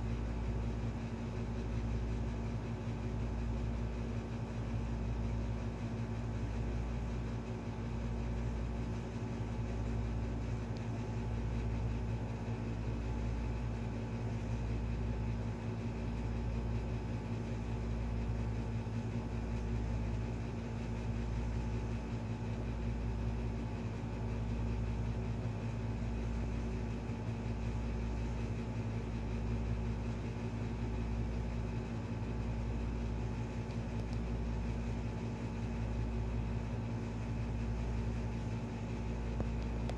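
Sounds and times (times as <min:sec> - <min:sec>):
low mechanical hum with throb: 0:00.0 - 0:39.9.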